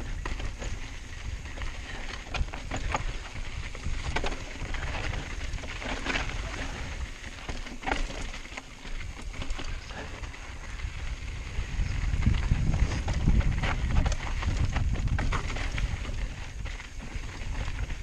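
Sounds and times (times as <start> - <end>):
bike knocking on rocks: 0.0 - 11.1, 11.9 - 18.0
bike rattling: 0.0 - 18.0
bike tyres crunching on gravel: 0.0 - 18.0
wind rumble on microphone: 0.0 - 18.0.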